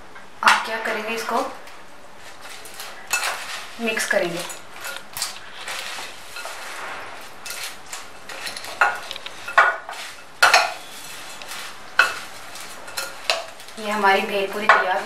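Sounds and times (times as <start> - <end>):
puffed rice rustling in bowl: 1.7 - 15.0.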